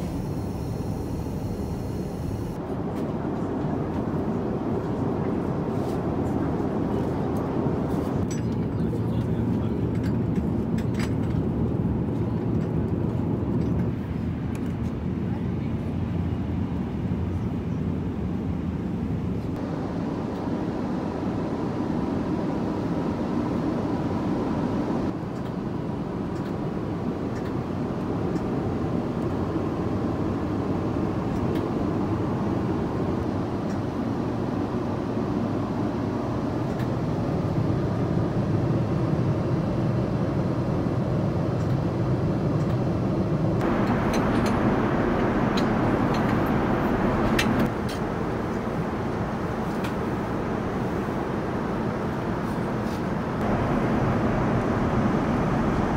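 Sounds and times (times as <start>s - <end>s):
airplane cabin noise: 0.0s - 55.9s.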